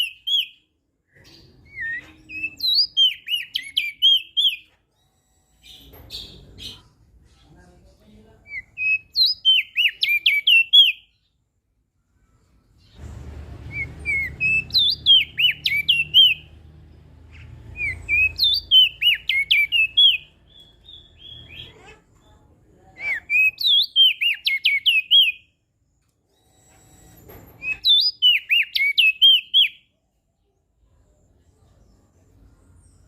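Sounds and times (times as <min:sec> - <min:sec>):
bird chirping song: 0:00.0 - 0:26.2, 0:27.6 - 0:33.0.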